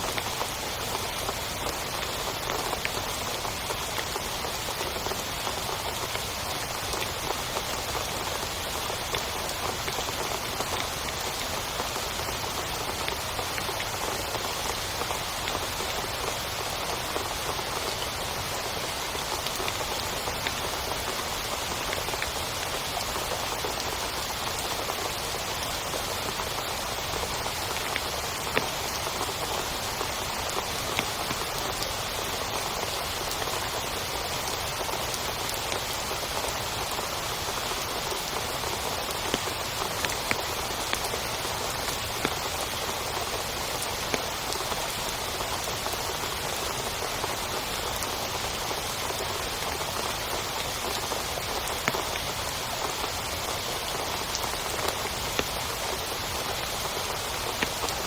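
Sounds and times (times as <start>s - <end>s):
heavy rain on a tent: 0.0s - 58.0s.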